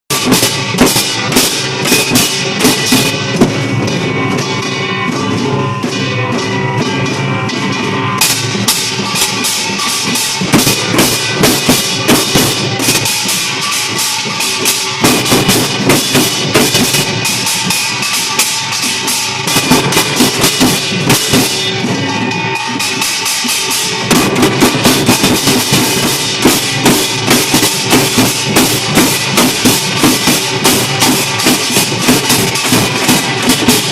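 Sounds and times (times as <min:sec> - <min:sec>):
fast dense drum rhythm: 0:00.0 - 0:33.9.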